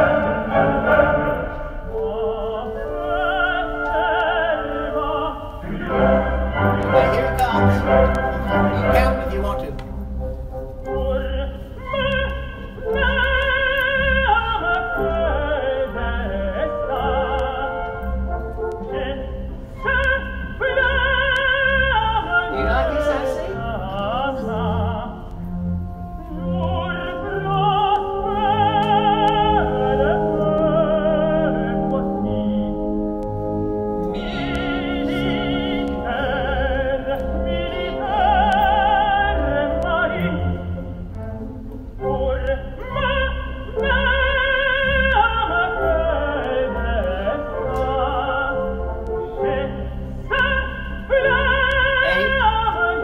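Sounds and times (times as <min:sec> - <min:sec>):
operatic tenor singing: 0:00.0 - 0:53.0.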